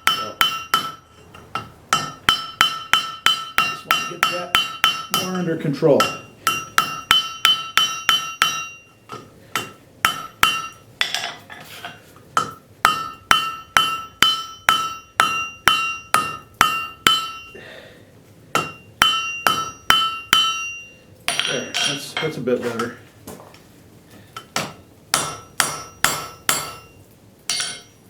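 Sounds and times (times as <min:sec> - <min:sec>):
hammer striking metal on anvil: 0:00.0 - 0:17.6, 0:18.5 - 0:23.0, 0:24.4 - 0:28.0.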